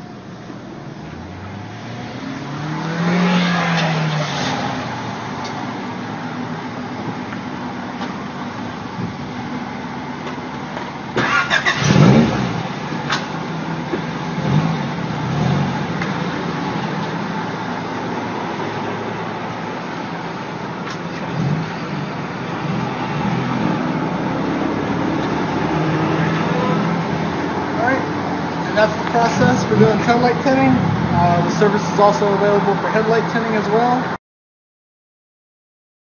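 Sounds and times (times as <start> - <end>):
cars passing by: 0.0 - 34.2
steady traffic hum: 0.0 - 34.2.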